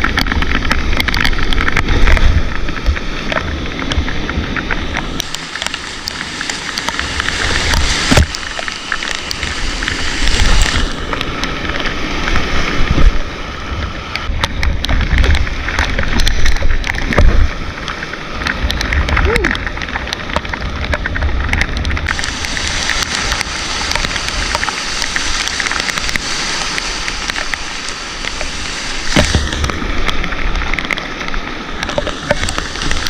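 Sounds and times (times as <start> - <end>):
white water rushing over rocks: 0.0 - 33.0.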